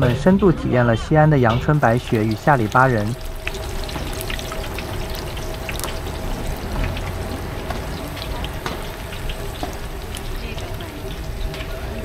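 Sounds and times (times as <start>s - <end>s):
dough sizzling in hot oil: 1.3s - 12.0s.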